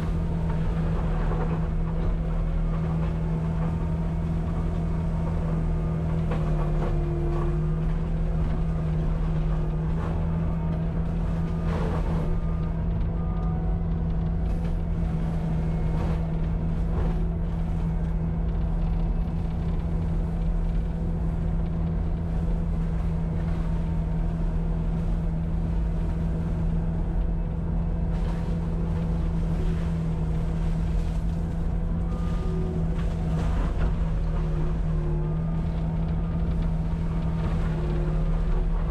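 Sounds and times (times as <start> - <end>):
diesel engine running at high speed: 0.0 - 38.9.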